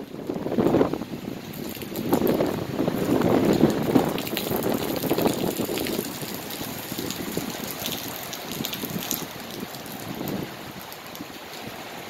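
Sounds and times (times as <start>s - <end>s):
heavy rain pouring: 0.0s - 12.0s
wind buffeting microphone: 0.0s - 12.0s
raindrop ticks: 1.4s - 11.6s.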